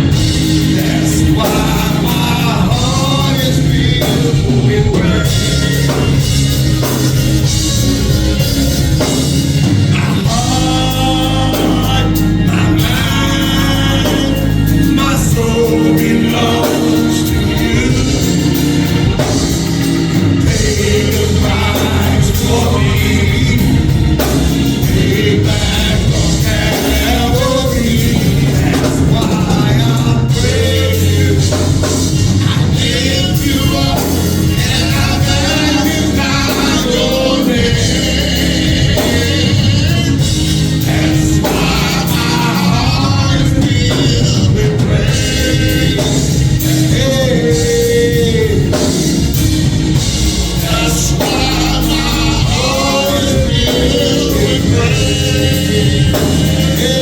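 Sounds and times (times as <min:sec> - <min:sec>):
gospel singing with live band: 0:00.0 - 0:57.0.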